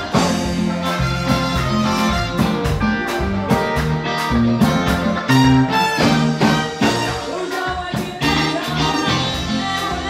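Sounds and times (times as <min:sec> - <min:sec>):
driving bass line: 0:00.0 - 0:10.0
horn section: 0:00.0 - 0:10.0
live band playing dance music: 0:00.0 - 0:10.0.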